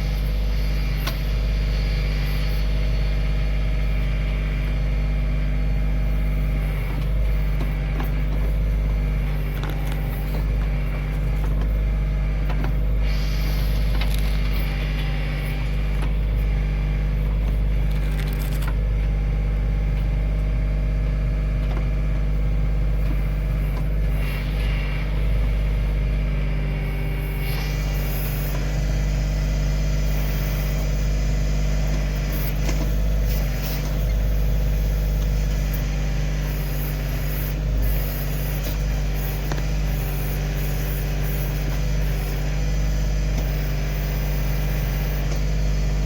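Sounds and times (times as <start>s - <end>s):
diesel tractor engine running: 0.0s - 46.0s.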